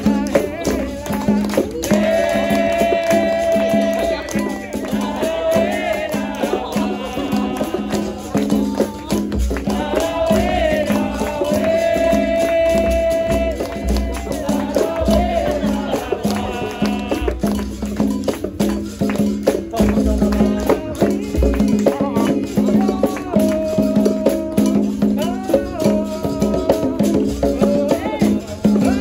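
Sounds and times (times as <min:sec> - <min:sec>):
hand percussion and drum beats: 0:00.0 - 0:29.0
shaken rattle: 0:00.0 - 0:29.0.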